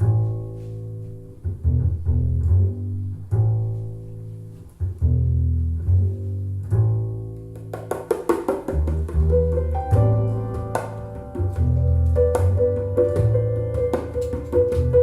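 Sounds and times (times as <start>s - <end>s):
deep double bass notes: 0.0s - 15.0s.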